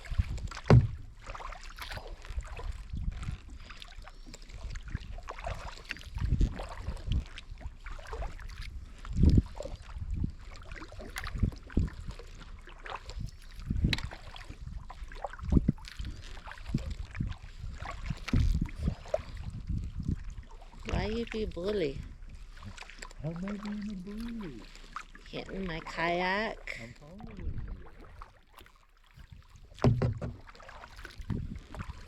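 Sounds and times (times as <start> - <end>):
paddle blades splashing: 0.0 - 32.0
water slapping hull: 0.0 - 32.0.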